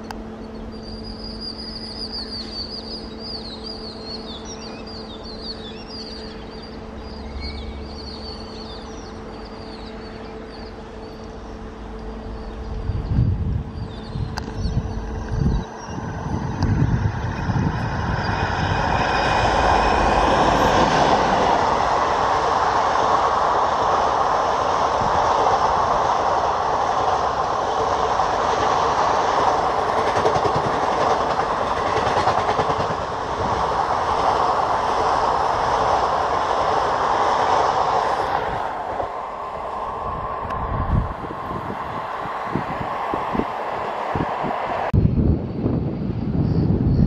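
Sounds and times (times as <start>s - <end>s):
train coaches rolling on rails: 0.0s - 45.0s
electric locomotive rumble and whine: 0.0s - 47.0s.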